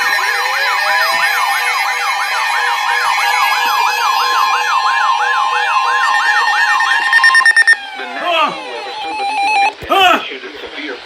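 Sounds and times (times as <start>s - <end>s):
electronic siren sweeping: 0.0s - 9.8s
steady electronic tone: 0.0s - 9.8s.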